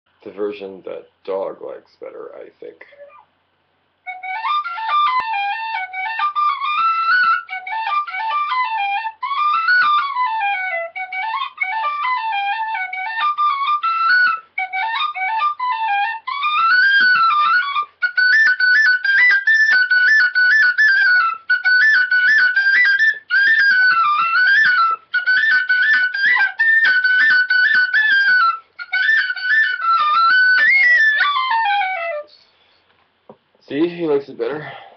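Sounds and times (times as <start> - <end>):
tin whistle melody: 4.0 - 32.6.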